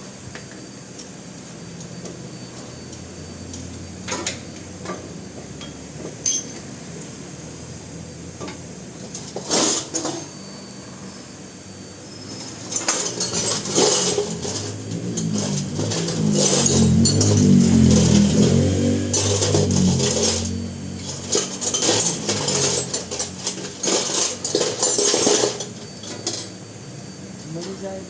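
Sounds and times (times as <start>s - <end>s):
metal tools clinking and clanking: 1.8s - 7.2s, 8.4s - 10.6s, 12.1s - 28.0s.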